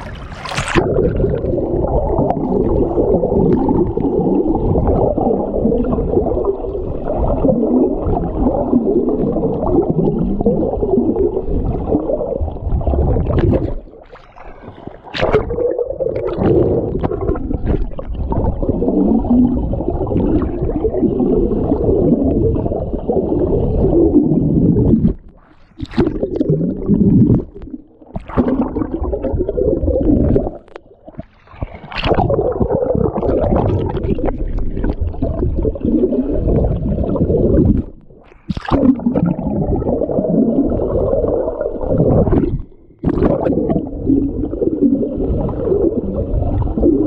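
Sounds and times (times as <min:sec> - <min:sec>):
pool water churning and sloshing: 0:00.0 - 0:47.0.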